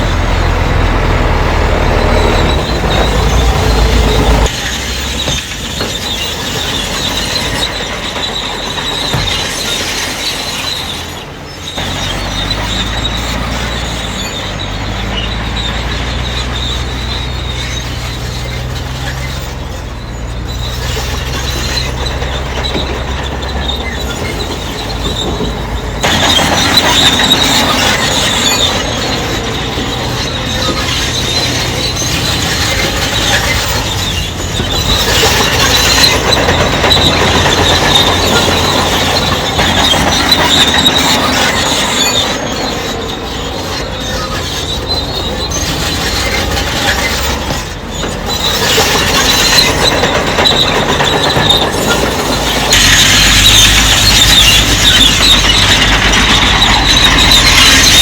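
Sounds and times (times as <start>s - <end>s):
bulldozer diesel engine: 0.0s - 58.0s
steel tracks squealing: 0.0s - 58.0s.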